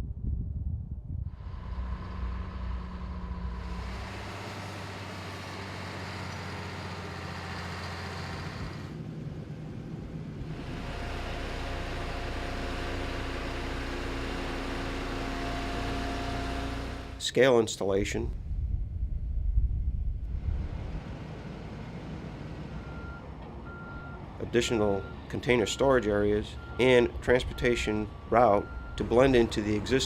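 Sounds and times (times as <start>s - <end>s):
diesel machinery engines running: 1.3s - 17.3s, 20.2s - 30.0s.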